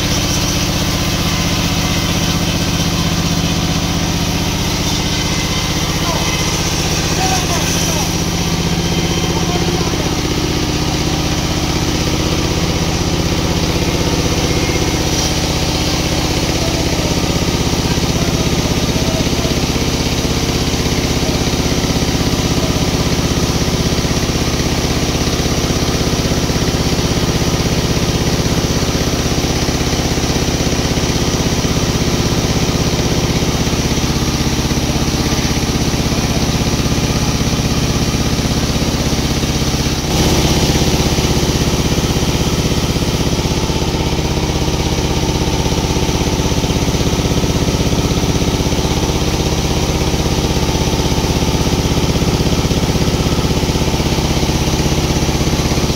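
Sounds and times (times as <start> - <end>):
sawmill machinery engine drone: 0.0 - 55.9.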